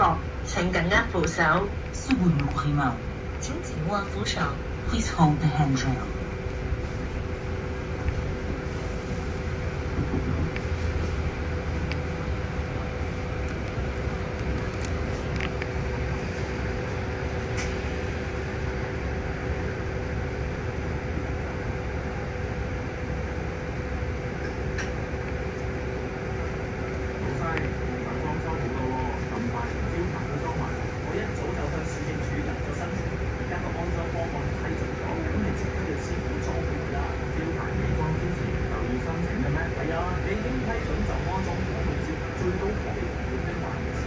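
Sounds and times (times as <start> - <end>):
bus engine rumble: 0.0 - 44.0.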